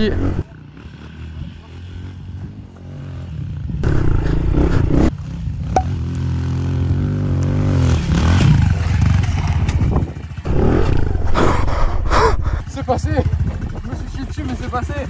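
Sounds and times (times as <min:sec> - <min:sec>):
dirt bike engine revving: 0:00.0 - 0:02.3, 0:02.9 - 0:09.7, 0:10.4 - 0:14.0.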